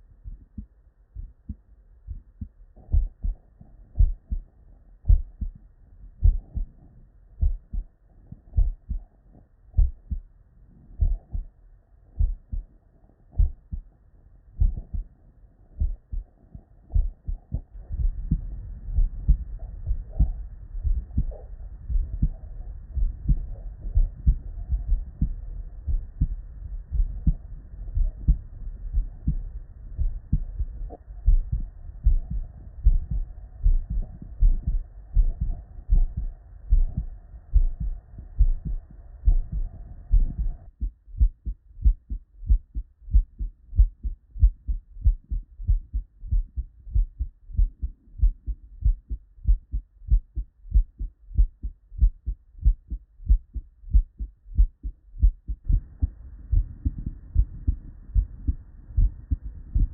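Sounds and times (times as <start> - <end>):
faint background hiss: 0.0 - 59.9
heartbeat through stethoscope: 0.0 - 59.9.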